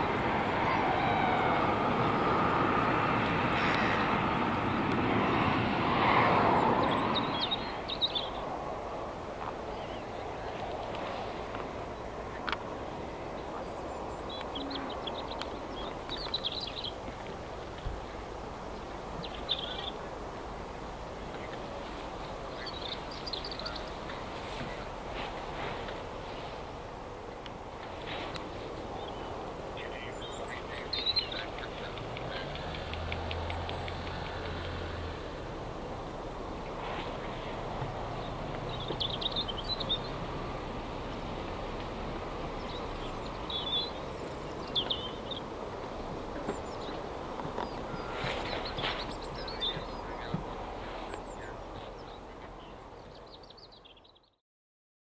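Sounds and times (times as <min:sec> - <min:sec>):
distant road traffic hum: 0:00.0 - 0:54.4.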